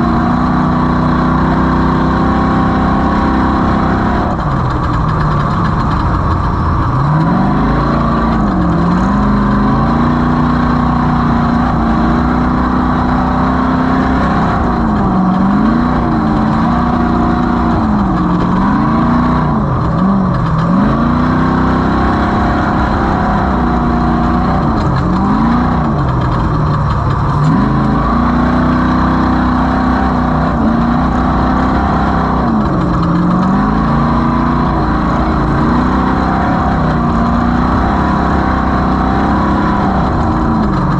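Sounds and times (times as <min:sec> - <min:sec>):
race vehicle engine revving: 0:00.0 - 0:40.9
steady rush of noise: 0:00.0 - 0:40.9.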